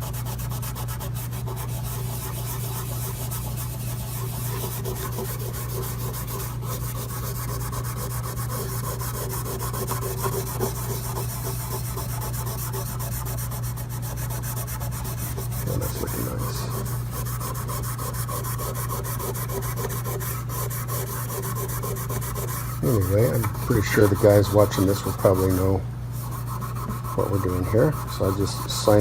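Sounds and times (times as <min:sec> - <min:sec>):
abrasive pad scrubbing metal: 0:00.0 - 0:29.0
low steady hum: 0:00.0 - 0:29.0.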